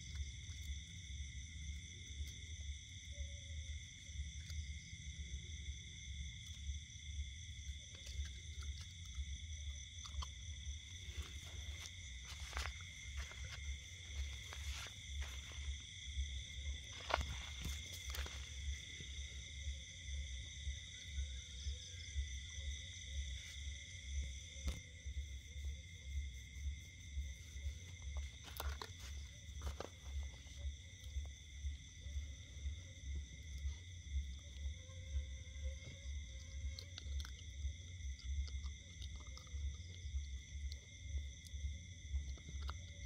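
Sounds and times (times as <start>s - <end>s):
night insects chirping: 0.0s - 43.0s.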